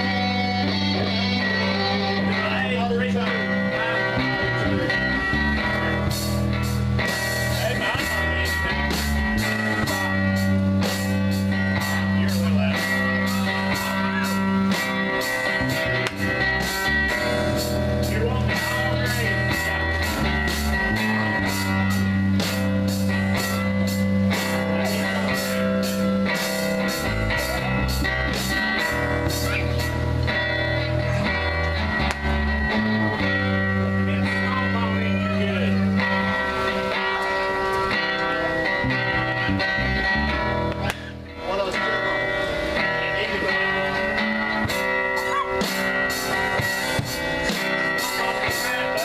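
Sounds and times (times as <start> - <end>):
drum kit beat: 0.0 - 2.6, 3.2 - 34.9, 35.7 - 49.0
bass guitar: 0.0 - 49.0
electric guitars: 0.0 - 49.0.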